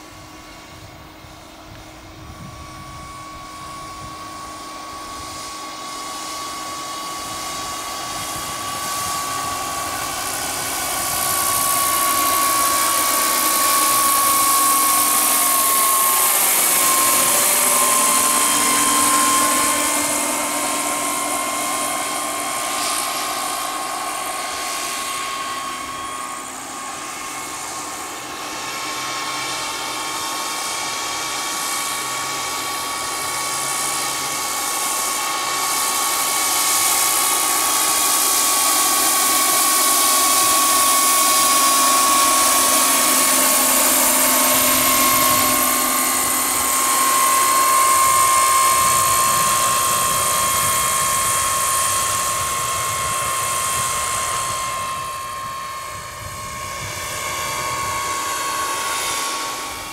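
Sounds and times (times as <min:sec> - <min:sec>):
model helicopter turbine whine: 0:00.0 - 0:59.9
rotor noise: 0:04.6 - 0:58.1.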